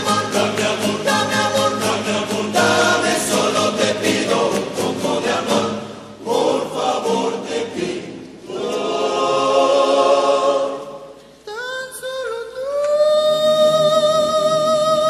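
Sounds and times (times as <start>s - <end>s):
vocal ensemble singing in harmony: 0.0s - 12.6s.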